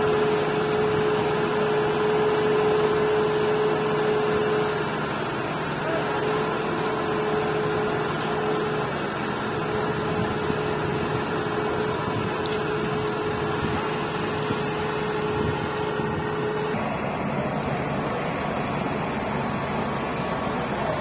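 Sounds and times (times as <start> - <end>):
diesel engine running: 0.0 - 21.0
steady whine: 0.0 - 21.0.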